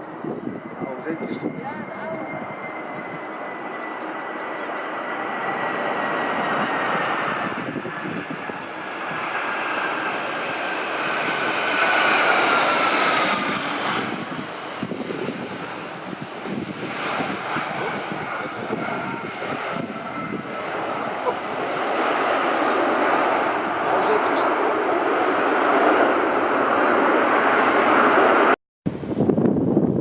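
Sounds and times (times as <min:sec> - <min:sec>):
jet airliner passing: 0:00.0 - 0:30.0.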